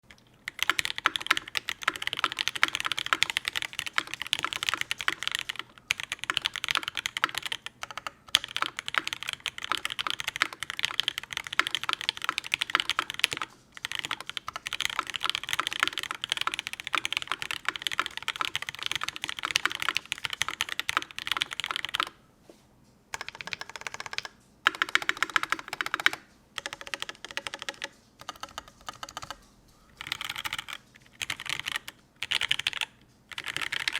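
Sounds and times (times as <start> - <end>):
mechanical keyboard typing: 0.1 - 22.2, 23.1 - 33.9.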